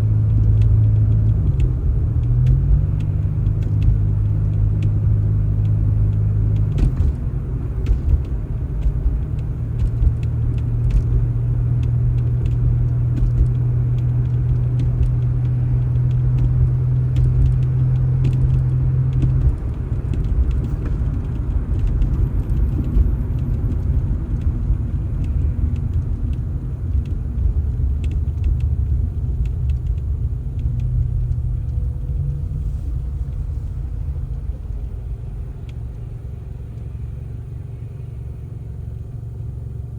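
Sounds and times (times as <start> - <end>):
vehicle engine low rumble: 0.0 - 39.9.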